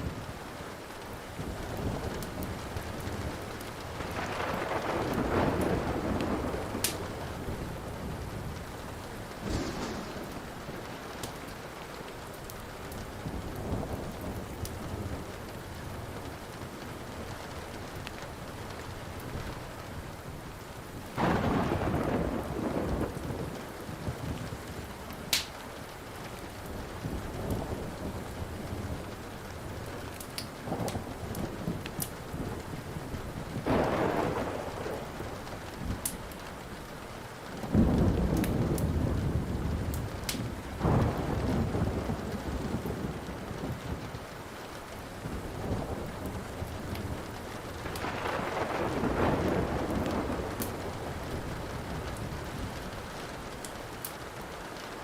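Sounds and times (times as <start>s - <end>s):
steady rain: 0.0s - 55.0s
wood fire crackling: 0.0s - 55.0s
thunder rumbling: 1.2s - 55.0s.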